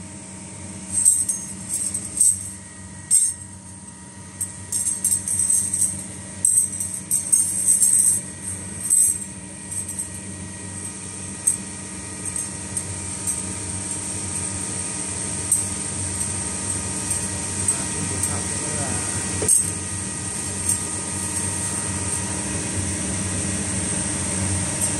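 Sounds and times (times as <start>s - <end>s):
steady machine hum: 0.0s - 24.9s
steel wire rings jangling: 0.9s - 3.7s, 4.4s - 14.6s, 15.4s - 22.5s.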